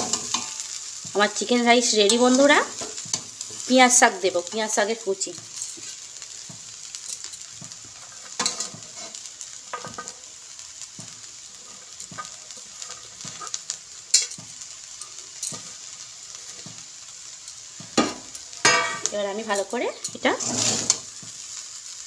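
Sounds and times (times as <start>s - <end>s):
rice sizzling in a pan: 0.0s - 22.0s.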